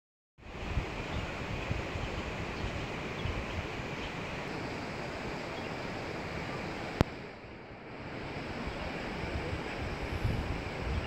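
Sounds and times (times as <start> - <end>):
river water flowing: 0.4 - 11.0
wind buffeting microphone: 0.4 - 11.0.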